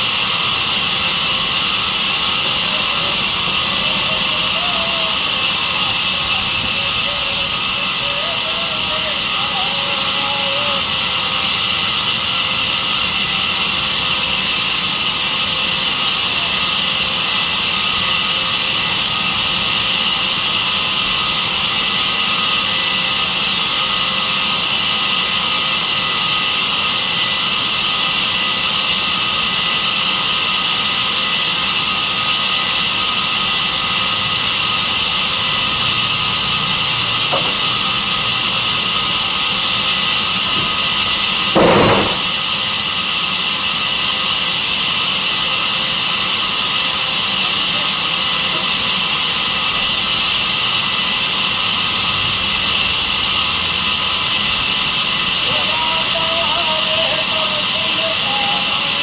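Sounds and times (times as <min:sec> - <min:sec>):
sawmill saw running: 0:00.0 - 0:59.0.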